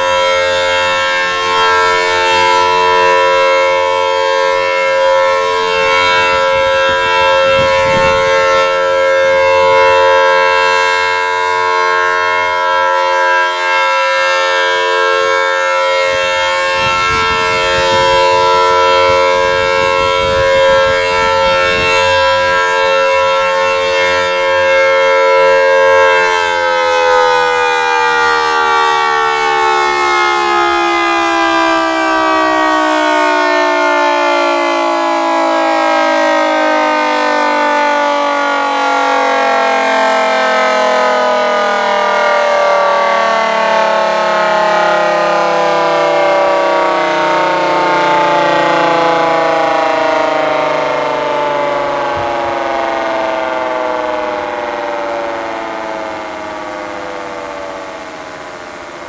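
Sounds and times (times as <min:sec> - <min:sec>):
outdoor warning sirens: 0:00.0 - 0:59.0.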